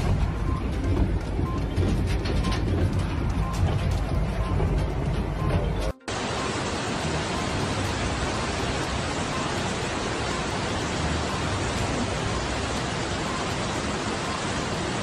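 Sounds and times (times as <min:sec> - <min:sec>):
heavy rain and rushing floodwater: 0:00.0 - 0:15.0.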